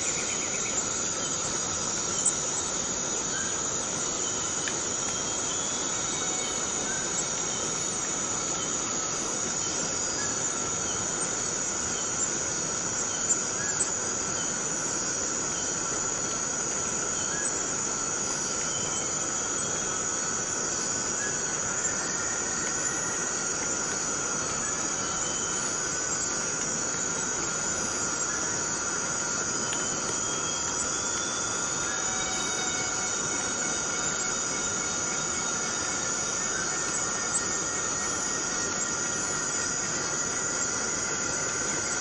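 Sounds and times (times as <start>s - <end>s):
cicadas droning: 0.0s - 42.0s.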